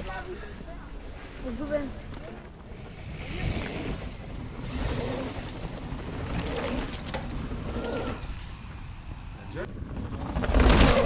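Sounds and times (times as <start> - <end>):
bike tyres rolling on dirt: 1.2 - 11.0.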